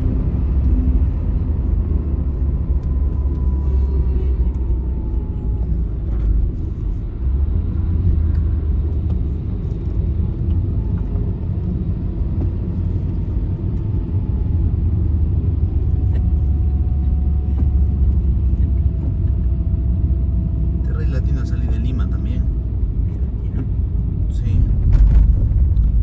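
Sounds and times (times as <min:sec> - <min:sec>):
vehicle road rumble: 0:00.0 - 0:26.0.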